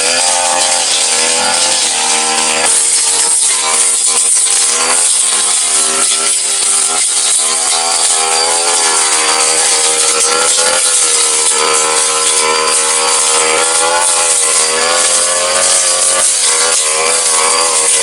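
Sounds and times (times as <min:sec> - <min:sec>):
brush cutter engine running: 0:00.0 - 0:18.0
metal blade cutting grass: 0:00.0 - 0:18.0.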